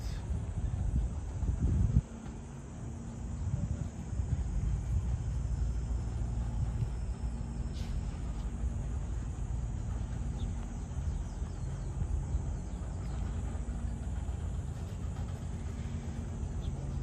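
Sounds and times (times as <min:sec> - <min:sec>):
faint hum: 0:00.0 - 0:17.0
low outdoor rumble: 0:00.0 - 0:17.0.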